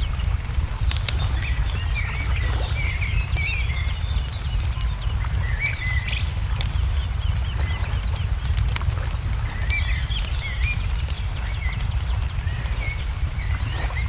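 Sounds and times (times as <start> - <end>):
low rumble: 0.0 - 14.0
songbirds chirping: 0.0 - 14.0.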